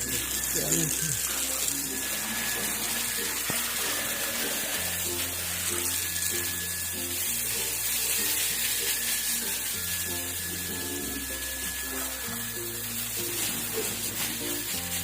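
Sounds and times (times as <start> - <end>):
water running: 0.0 - 15.0.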